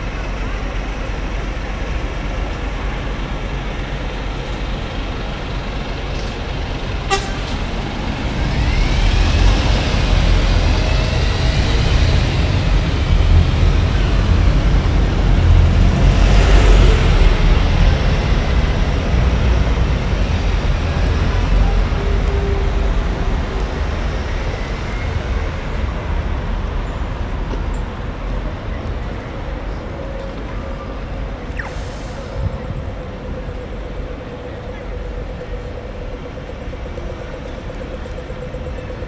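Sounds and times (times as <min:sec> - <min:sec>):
bus engine rumble: 0:00.0 - 0:39.0
street traffic: 0:00.0 - 0:39.0
rising engine whine: 0:05.2 - 0:39.0.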